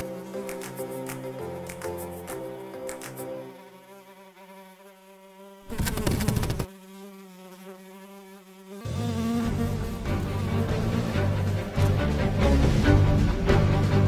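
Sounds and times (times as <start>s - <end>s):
fly buzzing: 0.0s - 13.0s.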